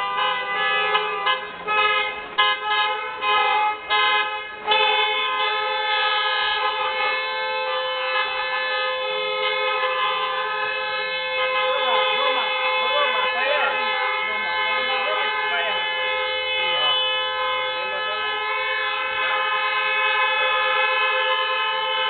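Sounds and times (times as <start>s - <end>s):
car horn honking: 0.0s - 22.0s.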